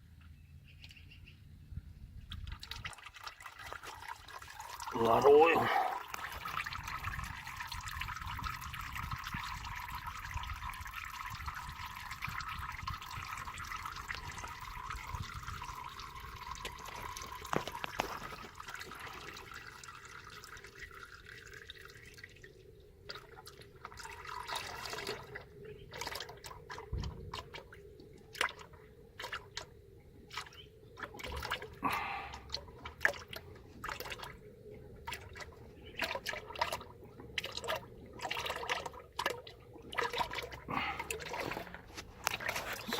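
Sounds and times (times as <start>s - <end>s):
oil pouring into drain pan: 2.3s - 25.4s, 30.3s - 34.4s, 35.0s - 42.9s
oil dripping: 2.3s - 42.9s.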